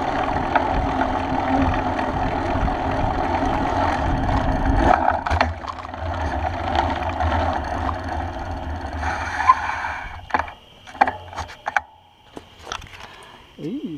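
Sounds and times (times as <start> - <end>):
bike riding rumble: 0.0 - 13.6
wind: 0.0 - 13.9.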